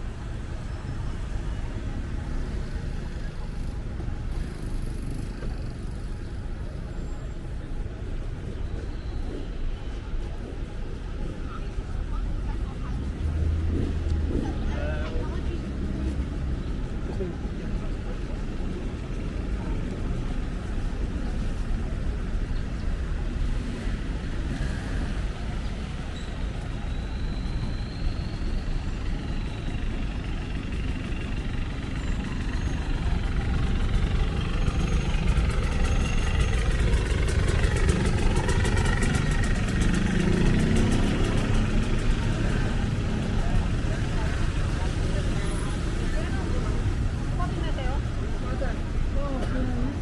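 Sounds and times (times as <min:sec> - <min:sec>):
street traffic rumble: 0:00.0 - 0:50.0.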